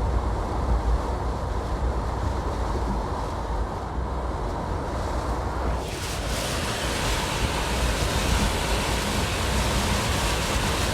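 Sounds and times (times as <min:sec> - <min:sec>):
strong wind buffeting microphone: 0:00.1 - 0:10.9.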